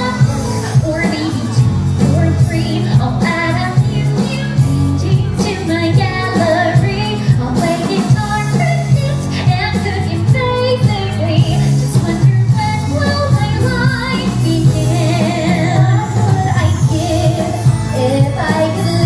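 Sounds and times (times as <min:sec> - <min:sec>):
band playing with bass beat: 0:00.0 - 0:19.0
woman singing a show tune: 0:00.0 - 0:19.0.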